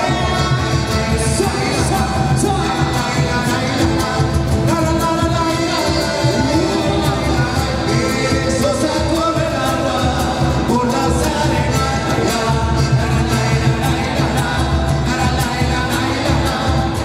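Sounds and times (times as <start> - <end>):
band playing: 0.0 - 17.0
person singing: 0.0 - 17.0
steady drum beat: 0.0 - 17.0.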